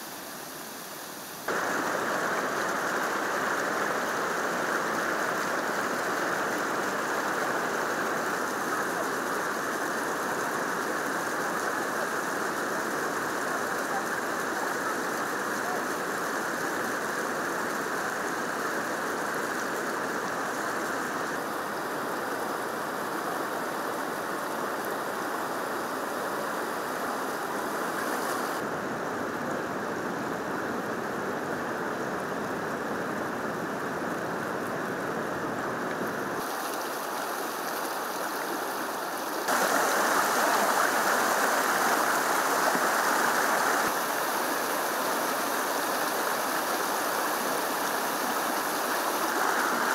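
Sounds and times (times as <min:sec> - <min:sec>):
floodwater rushing: 0:00.0 - 0:49.9.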